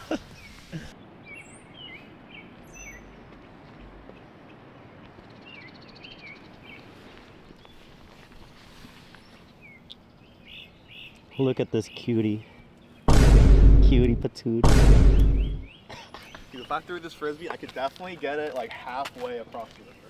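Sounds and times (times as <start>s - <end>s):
outdoor background rush: 0.0s - 20.0s
songbirds chirping: 0.1s - 20.0s.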